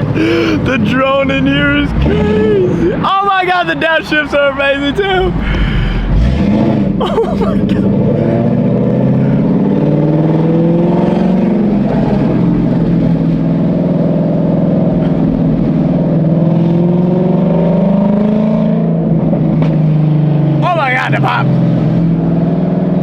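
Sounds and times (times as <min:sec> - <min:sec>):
loud car engine drone: 0:00.0 - 0:23.0.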